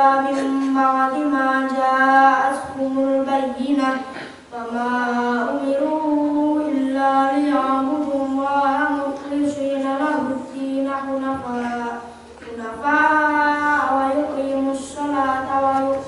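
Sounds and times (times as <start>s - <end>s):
boy chanting into a microphone: 0.0s - 16.0s.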